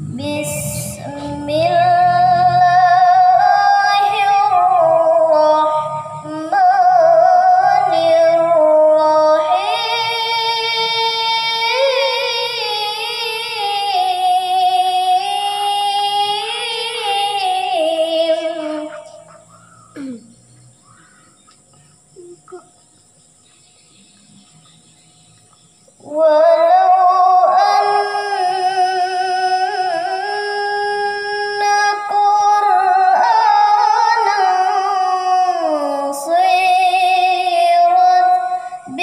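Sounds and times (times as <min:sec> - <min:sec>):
girl chanting into a microphone: 0:00.0 - 0:20.2, 0:26.0 - 0:39.0.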